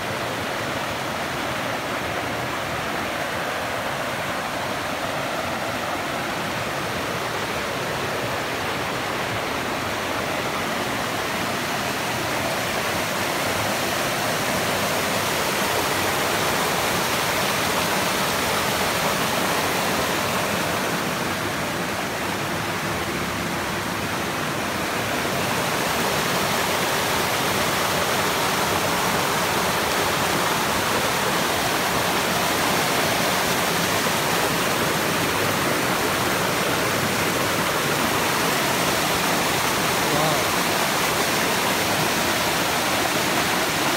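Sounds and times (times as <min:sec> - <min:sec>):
water rushing through channel: 0:00.0 - 0:43.9.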